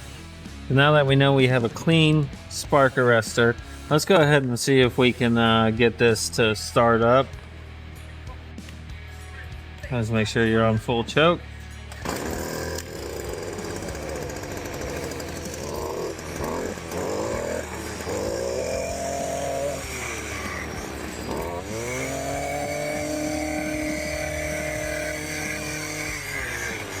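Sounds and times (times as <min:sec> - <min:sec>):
small two-stroke engine running: 0:00.0 - 0:07.6, 0:09.9 - 0:27.0.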